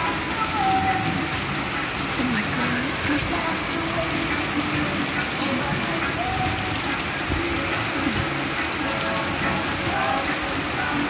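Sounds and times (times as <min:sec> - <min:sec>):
torrential rain hissing: 0:00.0 - 0:11.0
water gushing off roof: 0:00.0 - 0:11.0.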